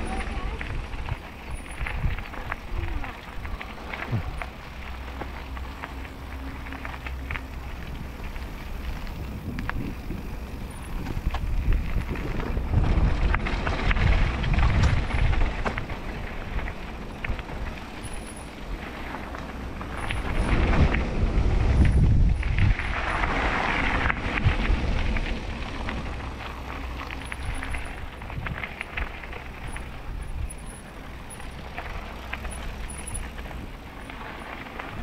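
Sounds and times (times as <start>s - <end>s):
bike rattling and clicking: 0.0s - 35.0s
tyres rolling on dirt and gravel: 0.0s - 35.0s
wind rushing over microphone: 0.0s - 35.0s.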